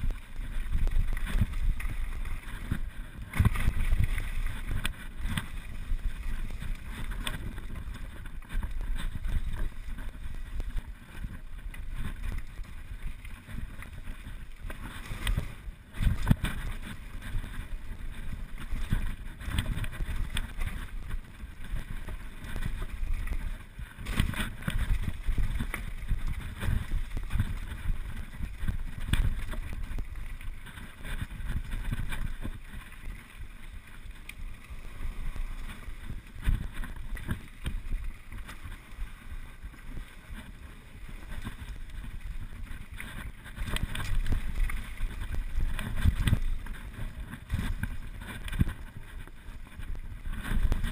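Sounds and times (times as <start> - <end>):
bike tyres rumbling: 0.0 - 50.9
wind buffeting microphone: 0.0 - 50.9.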